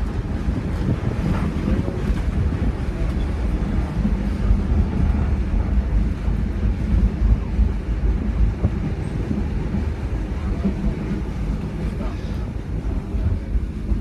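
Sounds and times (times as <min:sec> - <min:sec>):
railroad car rumbling on track: 0:00.0 - 0:14.0
wind buffeting microphone: 0:00.0 - 0:14.0.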